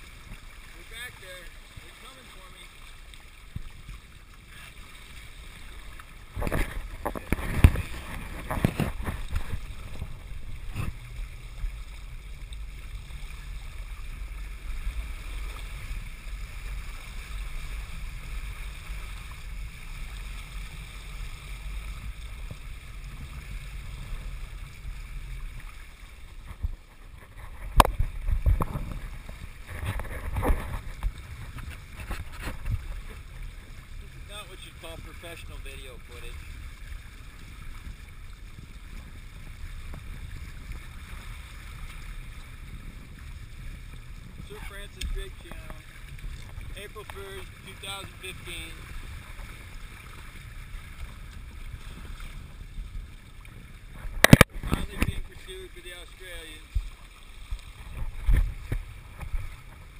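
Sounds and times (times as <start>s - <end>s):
water splashing against hull: 0.0s - 59.9s
wind rumble on microphone: 6.2s - 34.2s, 36.3s - 55.6s, 56.2s - 59.9s.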